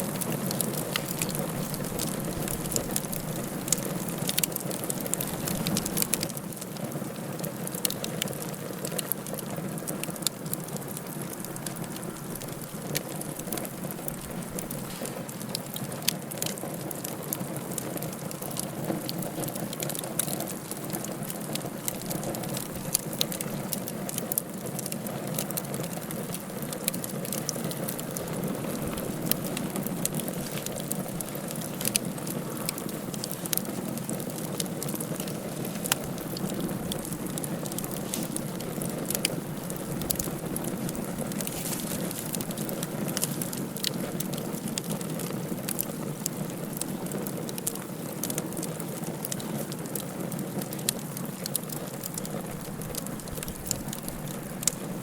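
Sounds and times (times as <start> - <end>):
fire crackles and pops: 0.0 - 55.0.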